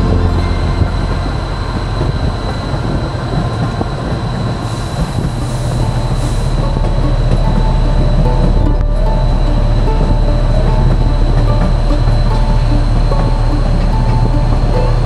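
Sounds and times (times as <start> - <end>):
moving train rumble: 0.0 - 15.0
train wheels clattering on rails: 0.0 - 15.0.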